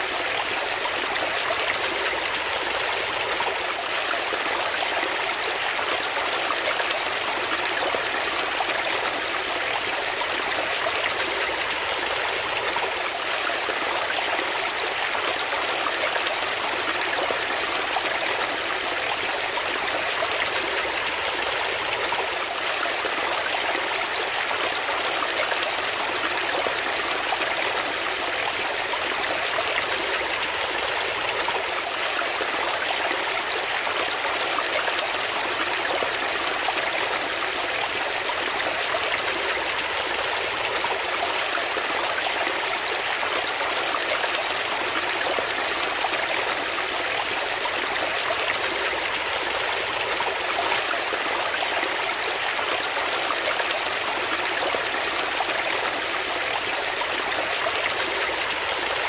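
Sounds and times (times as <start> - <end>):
brook flowing over stones: 0.0 - 59.0.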